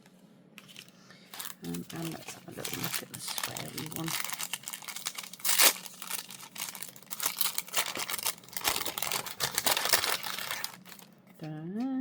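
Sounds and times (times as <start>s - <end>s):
packaging crinkling and rustling: 0.6s - 11.4s.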